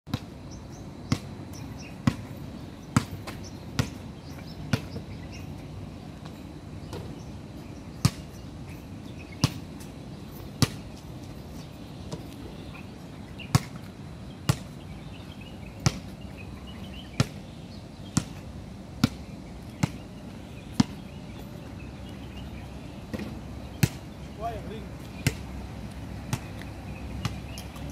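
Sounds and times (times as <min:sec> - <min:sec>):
basketball bouncing on asphalt: 0:00.1 - 0:22.2, 0:22.8 - 0:24.2, 0:25.0 - 0:27.9
low background noise: 0:00.1 - 0:27.9.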